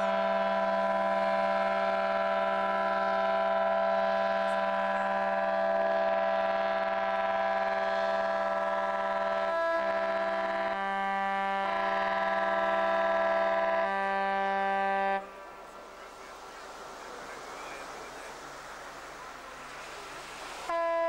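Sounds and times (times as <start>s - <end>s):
ship's horn blowing: 0.0s - 21.0s.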